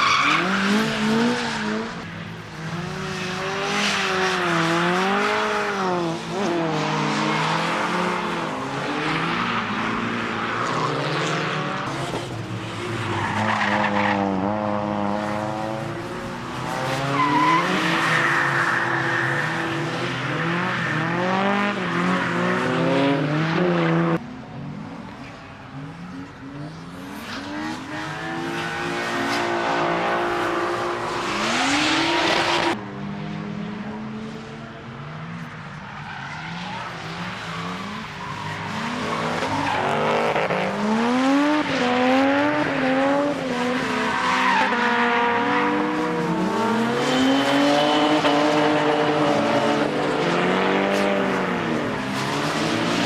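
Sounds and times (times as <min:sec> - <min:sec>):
drift car engines revving: 0:00.0 - 0:53.0.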